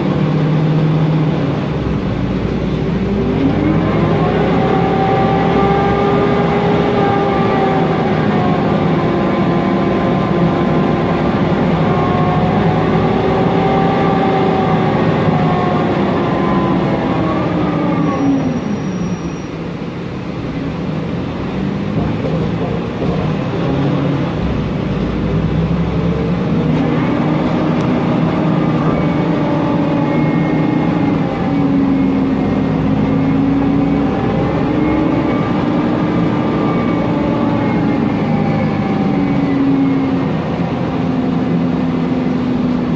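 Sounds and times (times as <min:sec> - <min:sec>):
bus engine: 0:00.0 - 0:42.9
bus transmission whining: 0:00.0 - 0:42.9.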